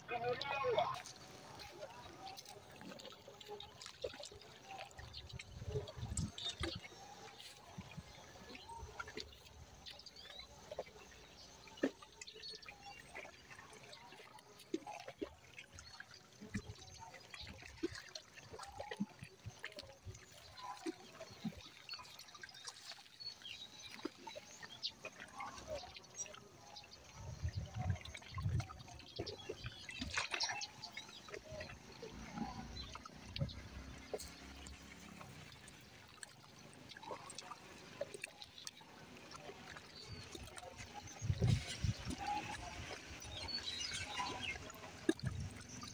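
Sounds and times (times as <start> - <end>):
small trickles and plops: 0.0 - 45.9
water lapping at shore: 0.0 - 45.9.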